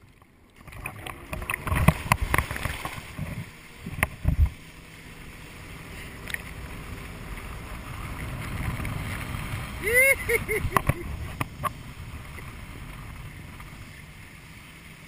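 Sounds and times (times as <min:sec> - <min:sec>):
water rushing and splashing: 0:00.0 - 0:15.0
wind: 0:00.0 - 0:15.0.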